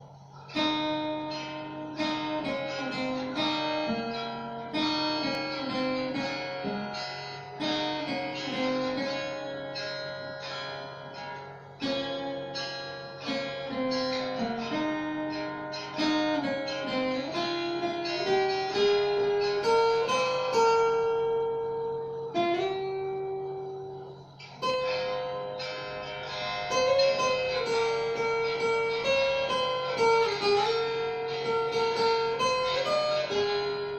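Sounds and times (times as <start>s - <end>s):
guitar picking single notes: 0.0s - 33.9s.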